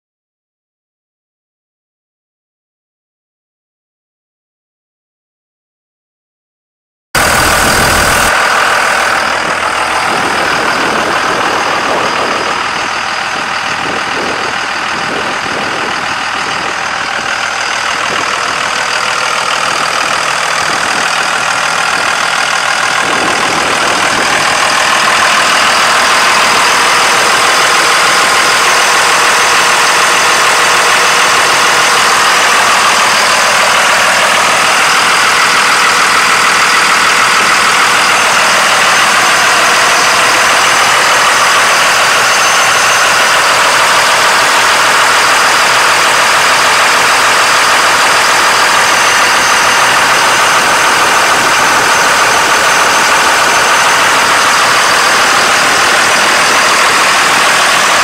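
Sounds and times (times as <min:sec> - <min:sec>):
diesel engine idling: 0:07.2 - 0:58.0.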